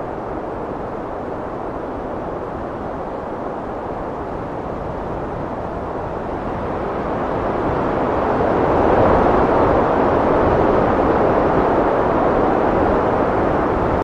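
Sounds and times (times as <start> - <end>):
heavy wind blowing: 0.0 - 14.0.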